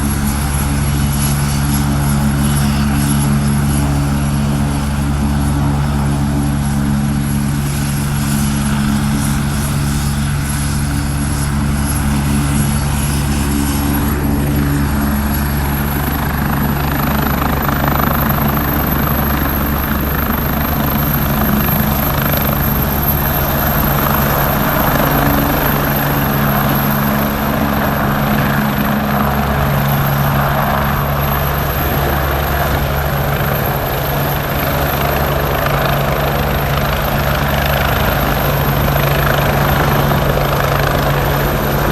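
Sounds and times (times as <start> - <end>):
helicopter rotor drone: 0.0 - 41.9.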